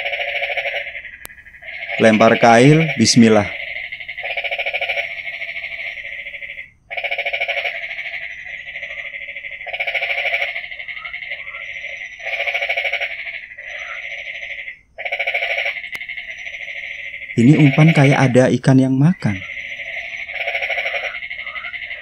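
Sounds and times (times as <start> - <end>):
faint frog calls: 0.0 - 22.0
frogs trilling: 0.0 - 22.0.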